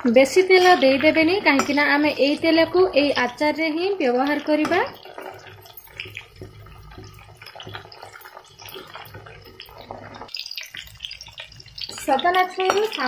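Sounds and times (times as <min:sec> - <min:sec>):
food sizzling in hot oil: 0:00.0 - 0:13.0
spoon stirring: 0:00.2 - 0:13.0.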